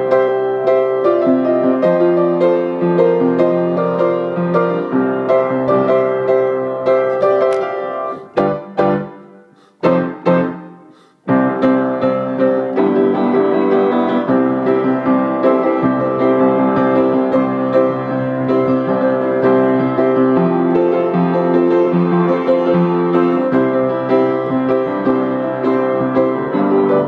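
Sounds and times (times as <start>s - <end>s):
piano playing: 0.0s - 27.0s.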